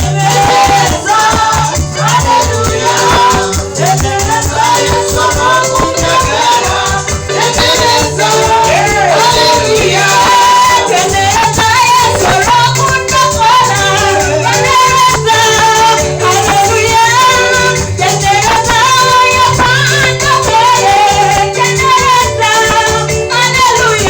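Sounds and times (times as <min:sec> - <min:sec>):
person singing: 0:00.0 - 0:24.0
repeating bass line: 0:00.0 - 0:24.0
shaker keeping time: 0:00.0 - 0:24.0.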